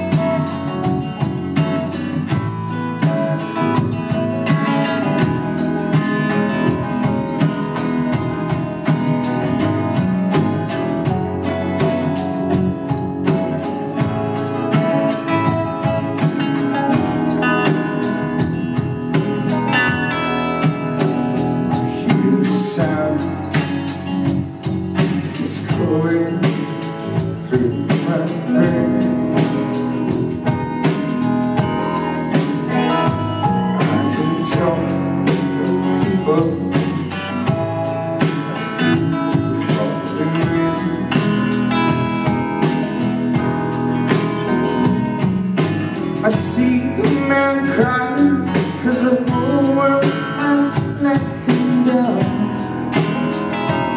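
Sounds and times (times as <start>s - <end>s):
acoustic guitar strumming: 0.0s - 53.9s
bass guitar: 0.0s - 53.9s
electric guitars: 0.0s - 53.9s
steady drum beat: 0.0s - 53.9s.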